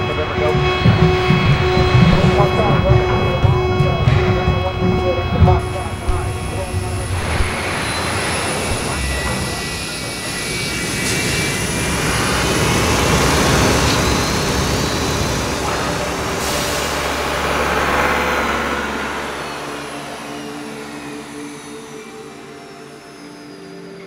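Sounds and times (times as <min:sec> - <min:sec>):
jet engine whine: 0:00.0 - 0:24.0
soft sustained music tones: 0:00.0 - 0:24.0.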